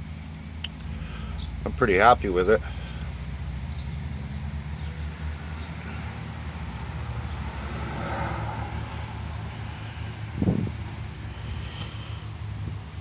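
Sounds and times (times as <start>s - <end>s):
outdoor background noise: 0.0s - 13.0s
steady low hum: 0.0s - 13.0s.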